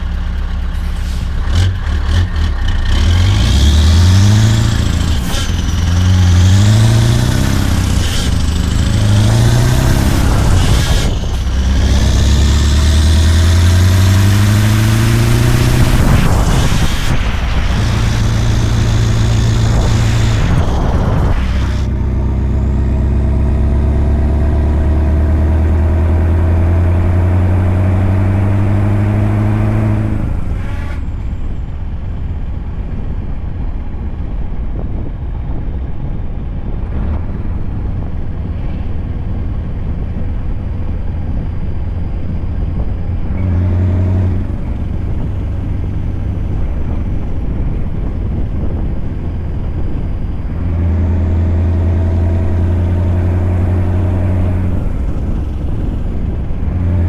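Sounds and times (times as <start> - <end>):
road and drivetrain rumble: 0.0 - 57.0
truck engine pulling under load: 0.0 - 57.0.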